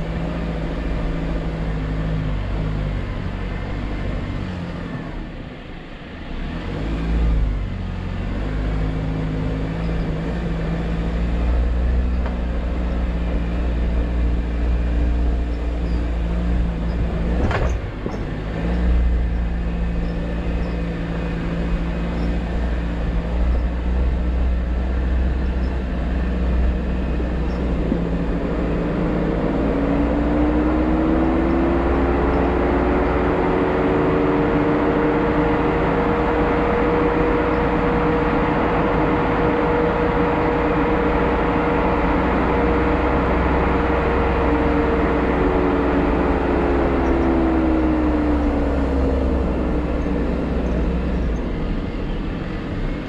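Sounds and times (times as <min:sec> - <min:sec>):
engine running at low revs: 0:00.0 - 0:53.0.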